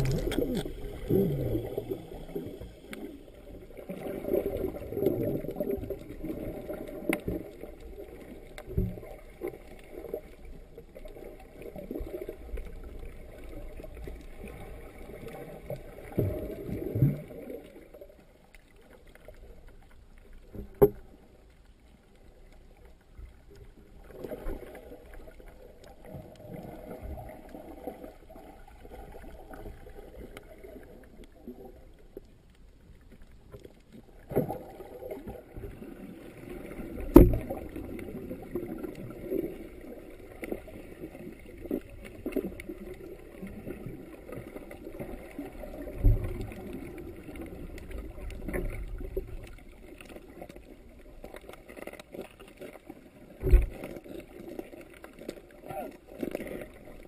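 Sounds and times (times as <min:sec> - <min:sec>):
muffled underwater rushing: 0:00.0 - 0:32.3, 0:32.9 - 0:57.0.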